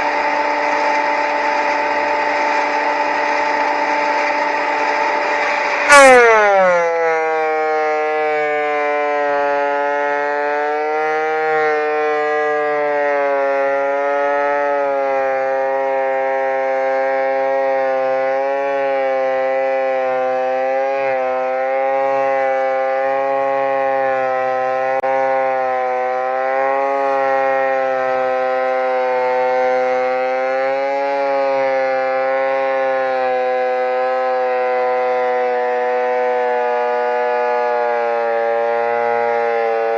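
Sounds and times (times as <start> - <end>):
planer motor whining under load: 0.0 - 39.9.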